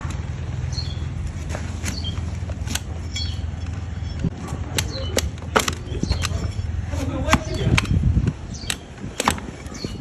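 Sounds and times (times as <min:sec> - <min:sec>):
hoof trimming tools snipping: 0:01.2 - 0:10.0.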